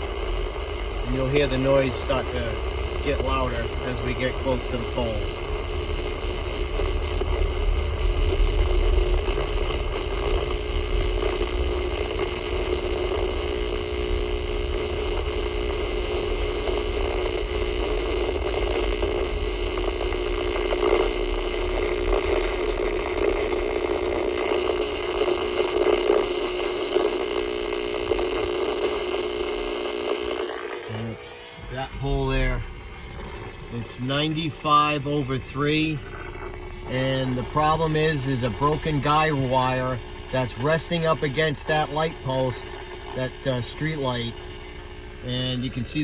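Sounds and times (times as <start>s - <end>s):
radio interference noise: 0.0s - 46.0s.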